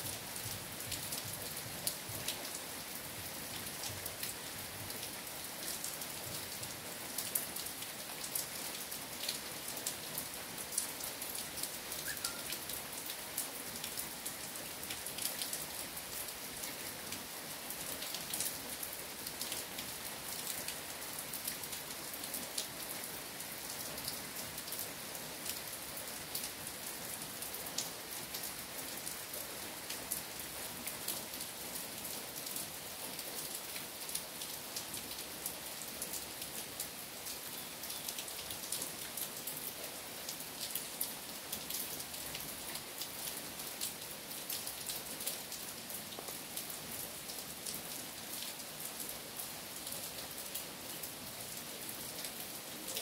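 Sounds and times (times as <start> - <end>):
rain falling on trees: 0.0 - 53.0.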